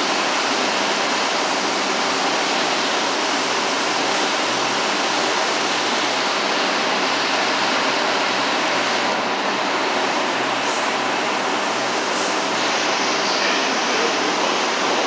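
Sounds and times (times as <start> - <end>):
subway station rushing noise: 0.0 - 15.0.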